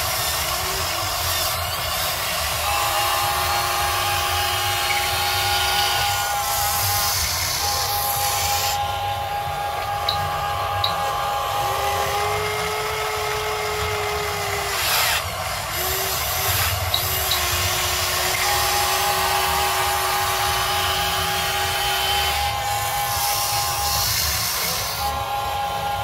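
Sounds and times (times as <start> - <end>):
hydraulic pump whining: 0.0 - 26.0
lower whine: 0.0 - 26.0.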